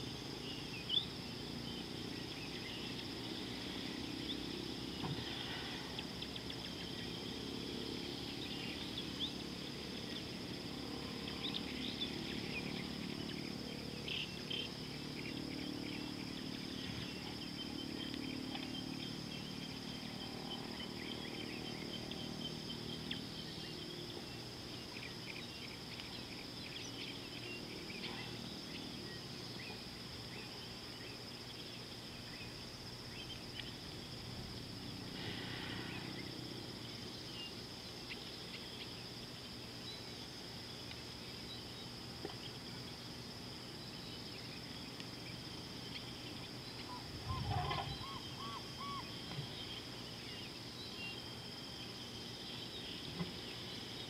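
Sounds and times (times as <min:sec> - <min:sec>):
insects trilling: 0:00.0 - 0:54.0
low steady noise: 0:00.0 - 0:54.0.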